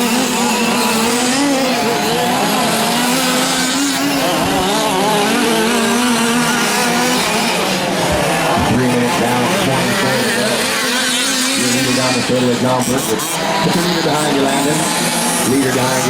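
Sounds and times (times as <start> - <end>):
small two-stroke engines buzzing: 0.0 - 16.0.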